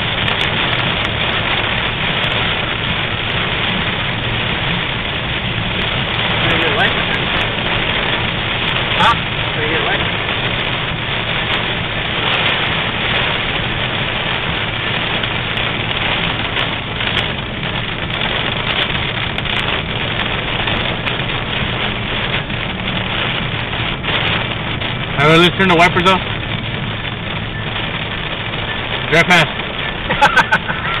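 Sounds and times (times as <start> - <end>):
rain and hail on car roof: 0.0 - 31.0
sharp hail hits: 0.0 - 31.0.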